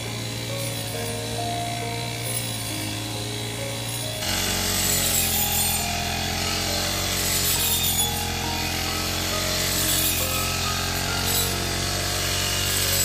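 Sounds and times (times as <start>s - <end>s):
harvester engine running: 0.0s - 13.0s.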